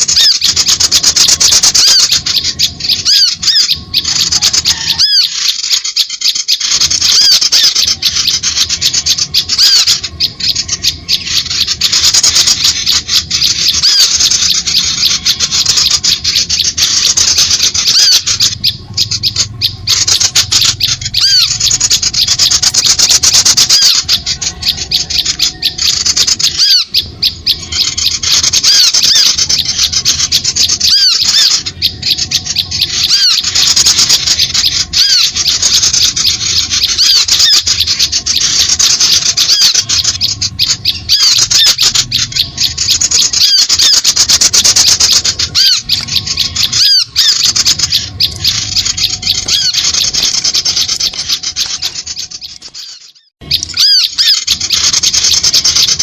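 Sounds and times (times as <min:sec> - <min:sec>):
small birds chirping chorus: 0:00.0 - 0:56.0.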